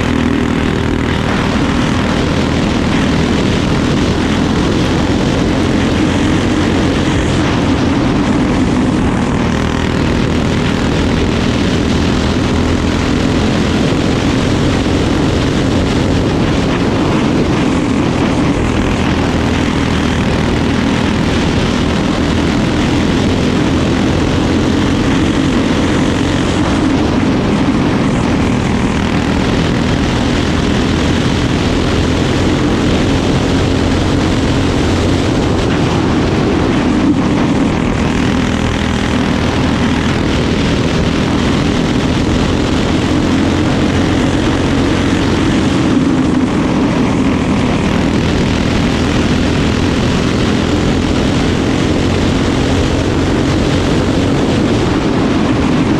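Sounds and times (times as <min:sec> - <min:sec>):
racing kart engine drone: 0:00.0 - 0:55.9.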